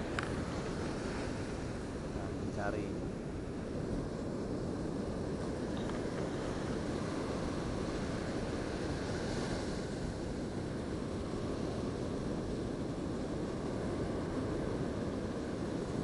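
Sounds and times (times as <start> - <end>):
surf breaking on beach: 0.0 - 16.0
wind rumbling on microphone: 0.0 - 16.0.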